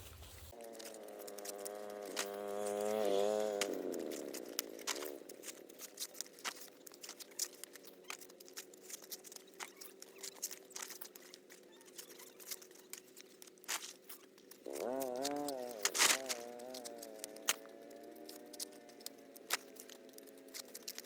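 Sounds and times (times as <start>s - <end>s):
dry corn husks rustling: 0.0s - 21.0s.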